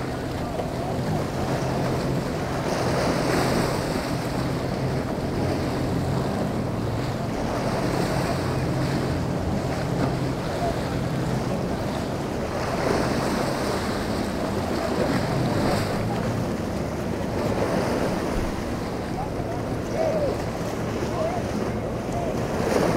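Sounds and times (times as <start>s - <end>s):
boat engine hum: 0.0s - 22.9s.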